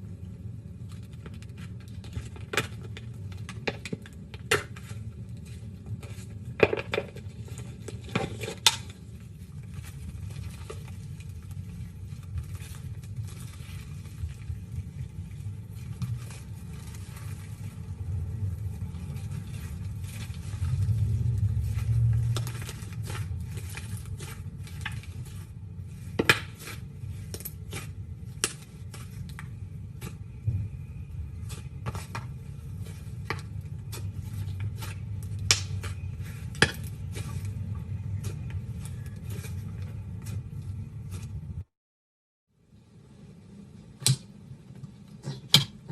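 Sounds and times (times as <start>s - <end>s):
steady low hum: 0.0s - 41.7s.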